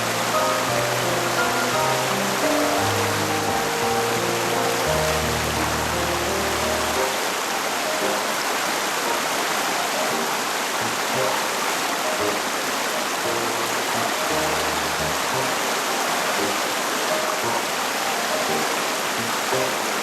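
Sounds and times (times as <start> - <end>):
soft background music: 0.0 - 20.0
stream rushing over rocks: 0.0 - 20.0.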